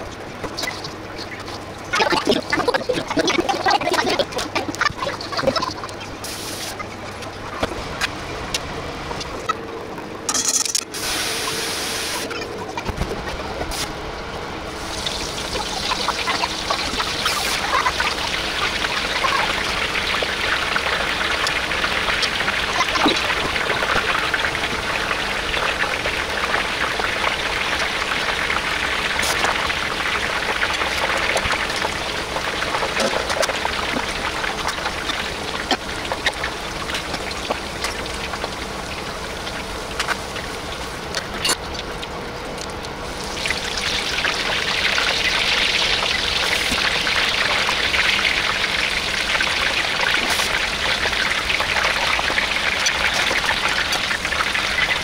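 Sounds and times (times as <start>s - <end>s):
hot oil sizzling and crackling: 0.0s - 9.6s, 10.3s - 12.4s, 13.0s - 42.0s, 42.8s - 55.0s.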